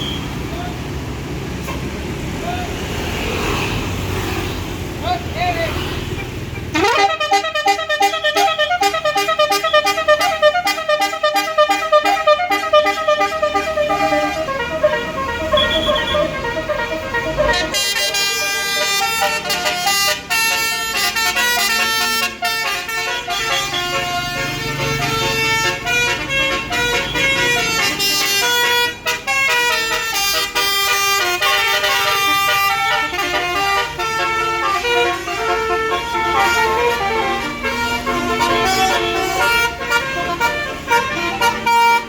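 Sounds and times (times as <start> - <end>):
musical bus horn playing a tune: 6.7 - 42.0.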